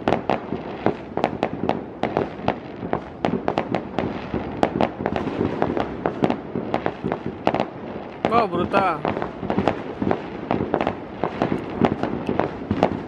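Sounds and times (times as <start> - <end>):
distant fireworks rumble: 0.0 - 13.0
fireworks bangs and pops: 0.0 - 13.0.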